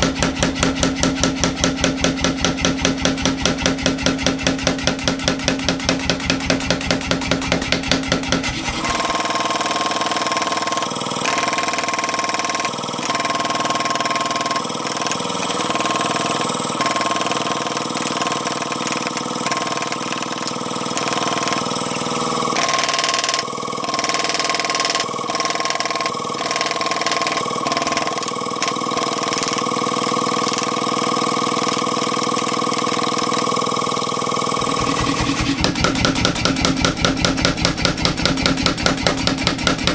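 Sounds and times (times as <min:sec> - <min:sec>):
constant mechanical hum: 0:00.0 - 0:39.9.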